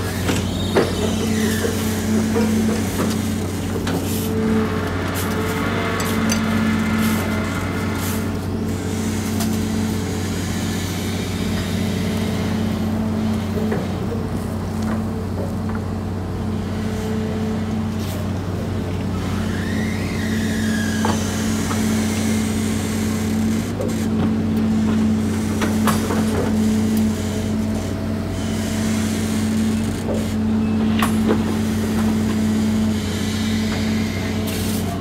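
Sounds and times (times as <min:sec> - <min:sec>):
excavator diesel engine humming: 0:00.0 - 0:35.0.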